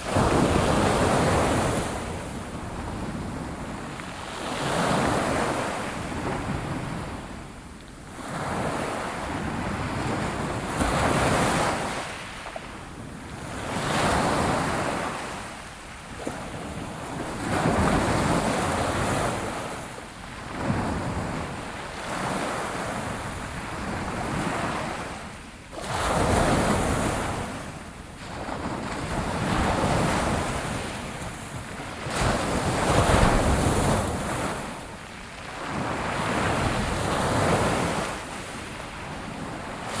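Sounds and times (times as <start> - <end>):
ocean waves breaking on shore: 0.0 - 40.0.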